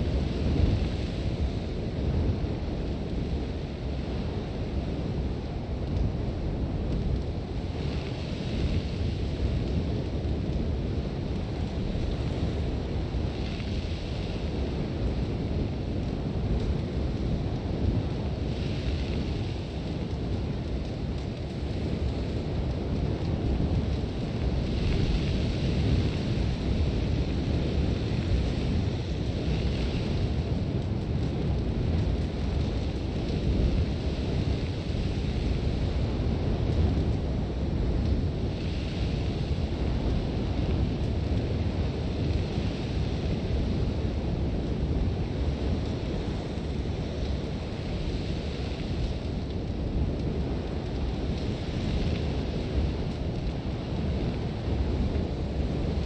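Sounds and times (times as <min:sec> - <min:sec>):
sandstorm wind rumble: 0:00.0 - 0:56.0.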